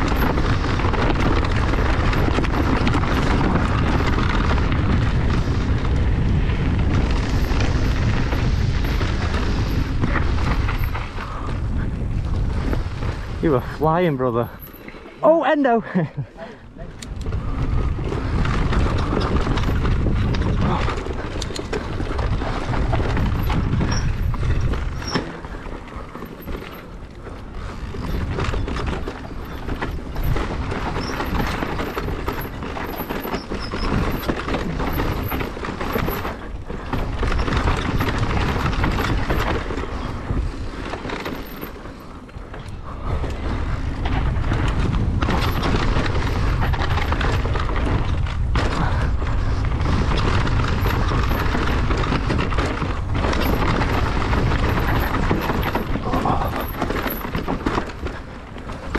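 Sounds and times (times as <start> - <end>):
bike rattling over bumps: 0.0 - 58.9
bike tyre noise: 0.0 - 58.9
wind buffeting microphone: 0.0 - 58.9.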